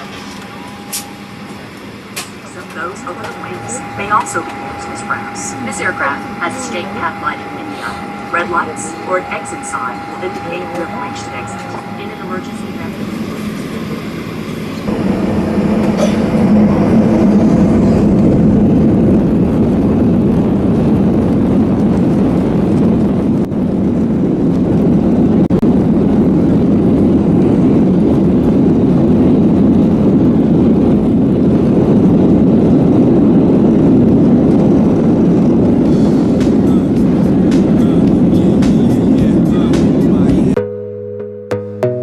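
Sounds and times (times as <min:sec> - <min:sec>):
airliner engines rumbling: 0:00.0 - 0:40.6.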